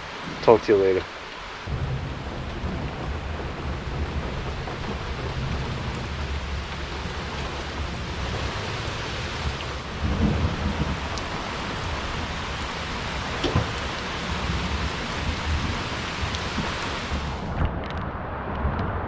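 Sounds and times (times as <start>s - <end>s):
steady rain falling: 0.0s - 18.0s
thunder rumbling: 1.6s - 19.0s.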